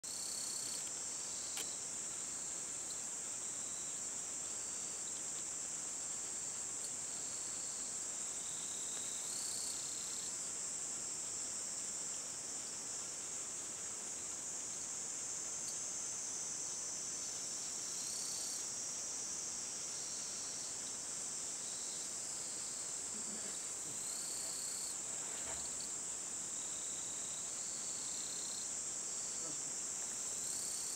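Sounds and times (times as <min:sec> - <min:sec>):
high-pitched insect chorus: 0:00.1 - 0:30.9
other insect calls: 0:00.1 - 0:30.9.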